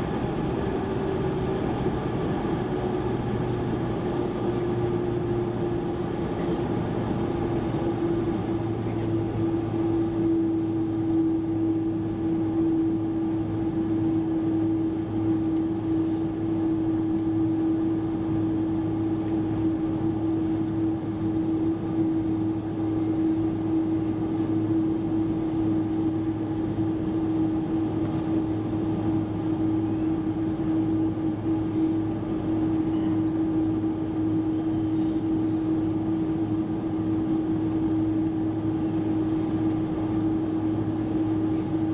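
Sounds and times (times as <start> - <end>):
jet engines droning in cabin: 0.0 - 41.9.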